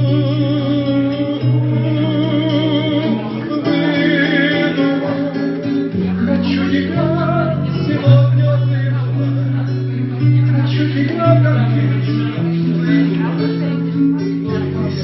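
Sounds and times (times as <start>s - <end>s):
acoustic guitar playing: 0.0s - 15.0s
person singing: 0.0s - 15.0s.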